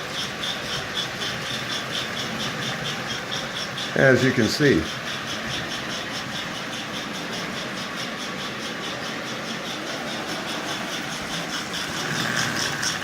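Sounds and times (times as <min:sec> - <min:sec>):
rhythmic rattling chuff: 0:00.0 - 0:13.0
toy train humming: 0:00.0 - 0:13.0.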